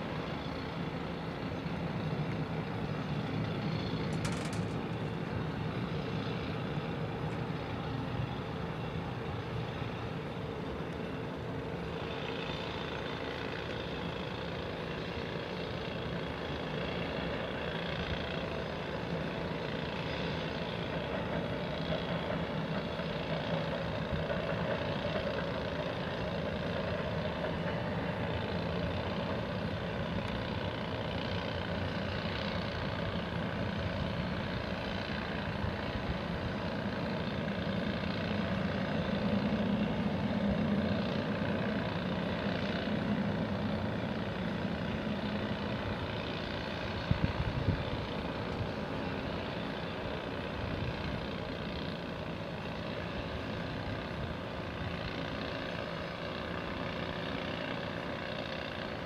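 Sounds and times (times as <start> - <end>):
engine rumble: 0.0 - 59.0.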